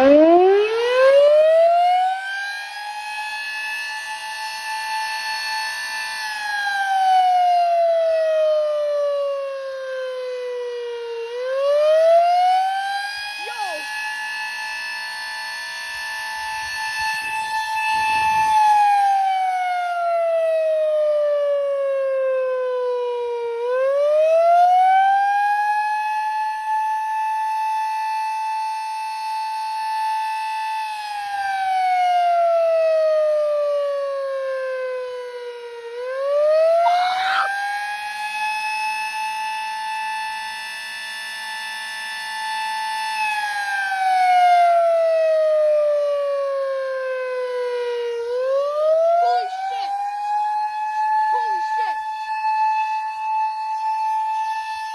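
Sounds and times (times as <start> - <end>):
mechanical siren wailing: 0.0 - 54.9.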